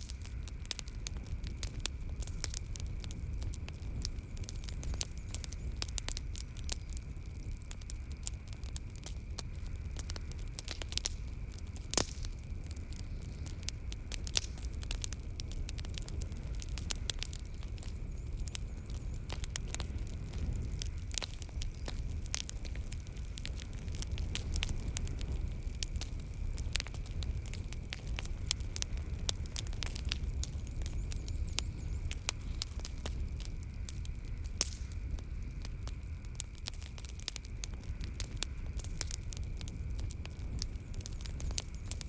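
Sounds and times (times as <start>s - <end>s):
low rumble of burning fire: 0.0s - 42.0s
wood fire crackling and popping: 0.0s - 42.0s.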